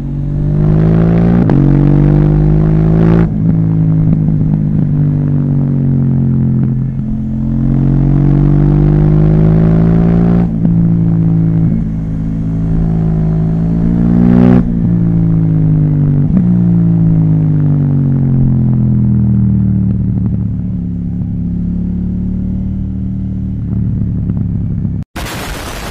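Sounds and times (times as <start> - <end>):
motorcycle engine revving: 0.0 - 25.1.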